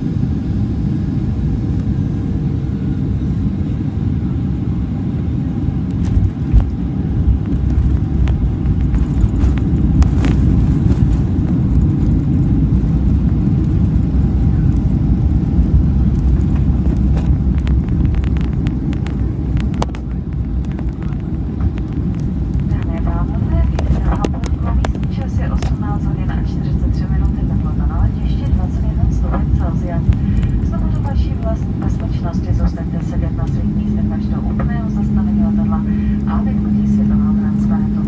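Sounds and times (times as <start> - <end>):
aircraft engine rumble: 0.0 - 38.0.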